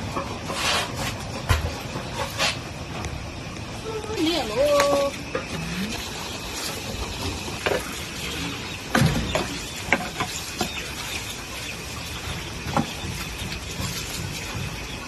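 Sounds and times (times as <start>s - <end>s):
rain hissing in forest: 2.6s - 15.0s.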